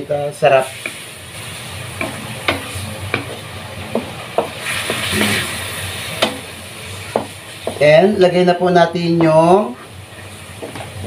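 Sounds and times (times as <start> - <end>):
chicken sizzling in a wok: 0.0 - 11.0.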